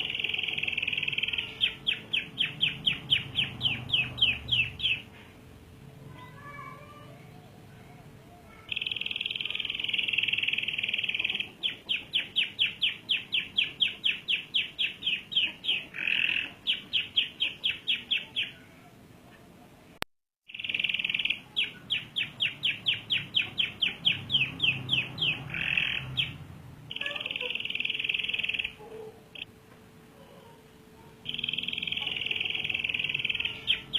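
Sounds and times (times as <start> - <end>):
canary singing: 0.0 - 5.3, 8.4 - 19.6, 20.5 - 29.5, 30.4 - 33.9.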